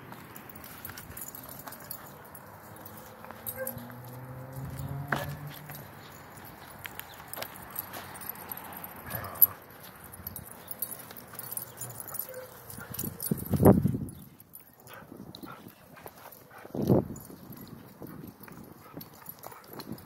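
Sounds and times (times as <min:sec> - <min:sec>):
paws scuffing on dirt: 0:00.1 - 0:20.0.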